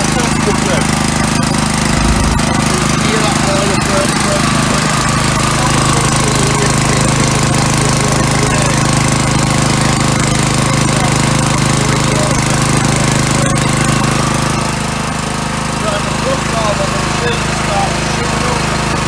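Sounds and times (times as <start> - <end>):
petrol engine running: 0.0 - 19.0.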